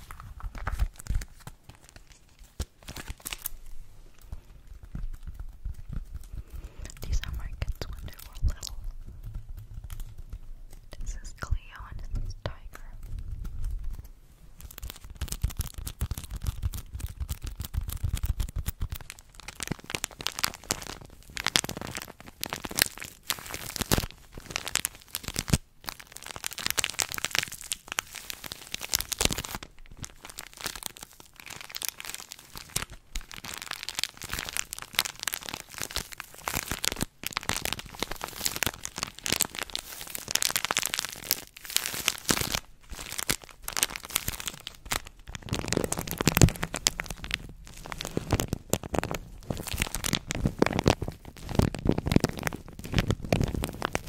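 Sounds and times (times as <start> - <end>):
plastic wrapper crinkling: 0.0 - 54.0.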